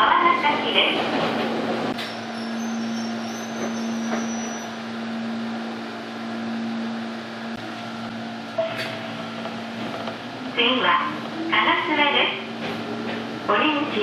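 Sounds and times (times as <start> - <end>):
electric train hum: 0.0 - 14.0.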